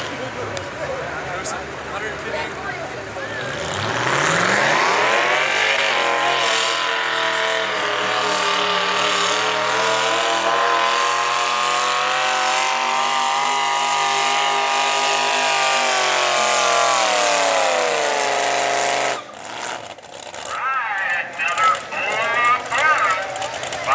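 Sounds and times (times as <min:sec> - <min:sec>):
tractor engine revving: 0:02.9 - 0:23.9.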